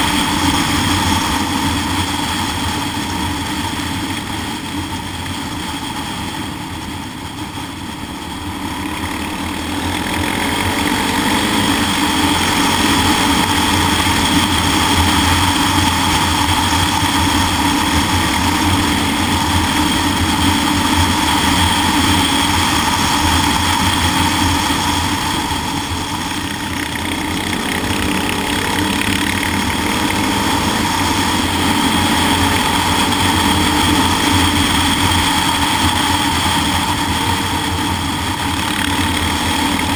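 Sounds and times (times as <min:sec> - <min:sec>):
motorcycle engine cruising: 0:00.0 - 0:39.9
road noise: 0:00.0 - 0:39.9.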